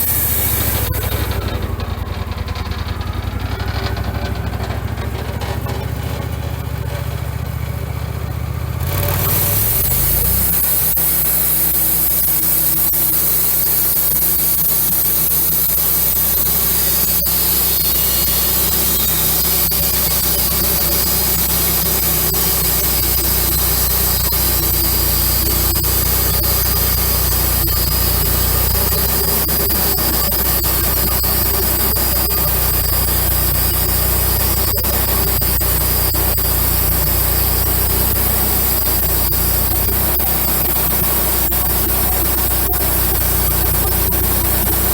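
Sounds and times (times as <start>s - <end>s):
bandsaw mill sawing log: 0.0s - 44.9s.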